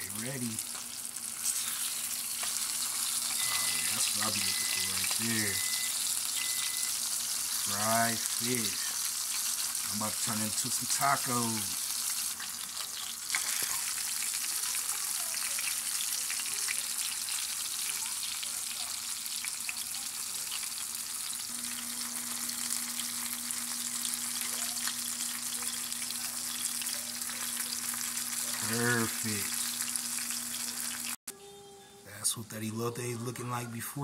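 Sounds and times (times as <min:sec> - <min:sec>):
fish frying in hot oil: 0:00.0 - 0:31.2.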